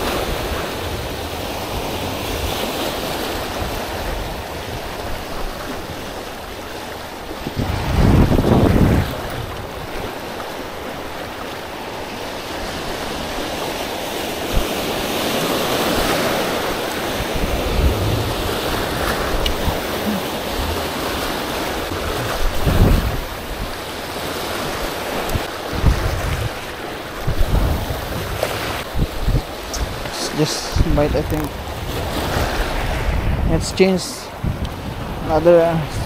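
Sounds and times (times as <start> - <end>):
wind gusting on microphone: 0.0 - 11.4, 12.4 - 36.0
waves breaking on a beach: 0.0 - 36.0.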